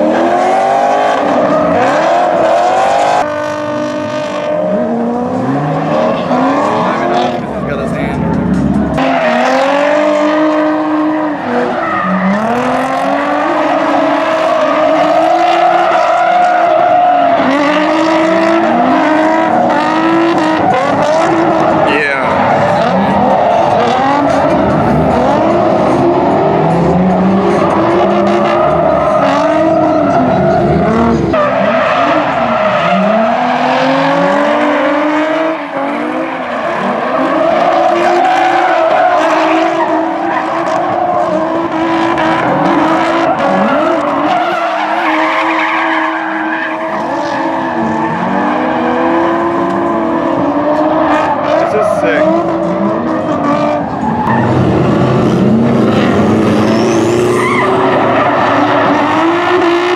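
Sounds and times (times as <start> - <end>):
car engines revving: 0.0 - 59.9
tyres skidding and squealing: 0.0 - 59.9.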